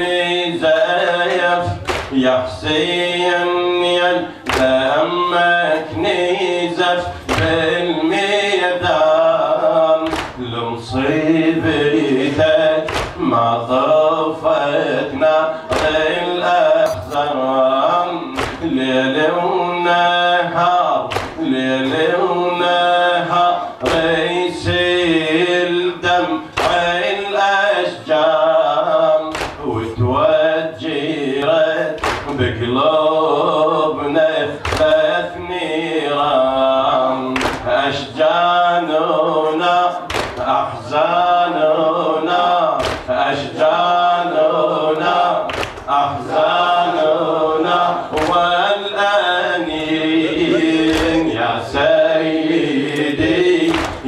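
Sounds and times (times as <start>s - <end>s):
man chanting through a microphone: 0.0s - 54.0s
sharp rhythmic slaps: 0.5s - 54.0s.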